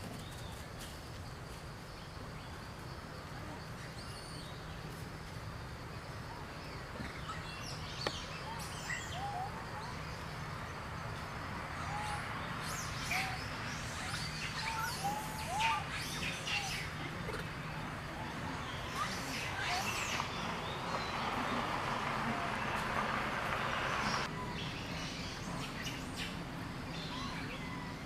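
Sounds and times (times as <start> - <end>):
birds chirping: 2.0 - 28.0.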